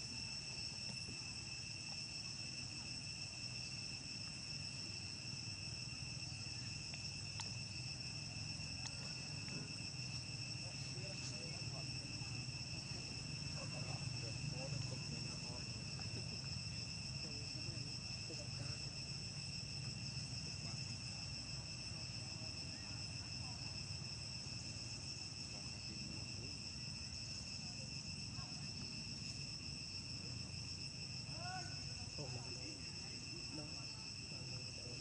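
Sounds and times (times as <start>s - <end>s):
insect chorus trilling: 0.0s - 35.0s.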